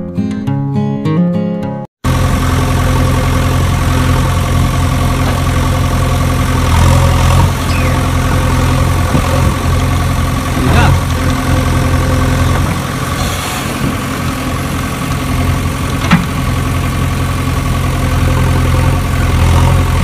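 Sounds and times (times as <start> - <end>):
toy excavator engine idling: 2.0 - 20.0.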